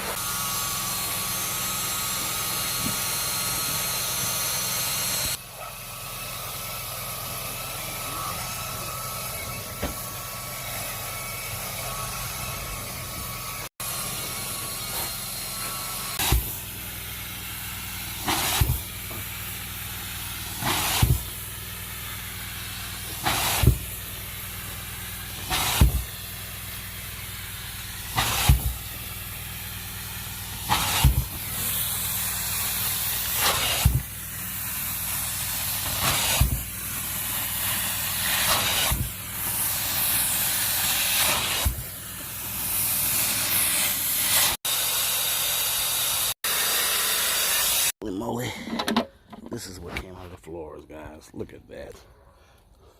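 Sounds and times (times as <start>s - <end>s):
carpet vacuum hissing and humming: 0.0s - 48.0s.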